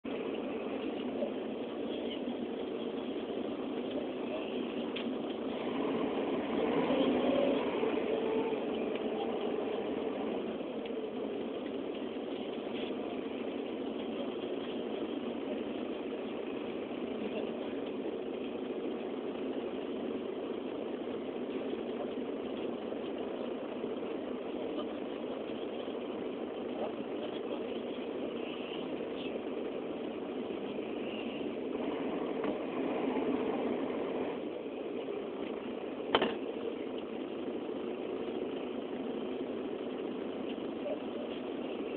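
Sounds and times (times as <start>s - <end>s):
steady rain: 0.0s - 41.9s
vehicle engine idling: 0.0s - 41.9s.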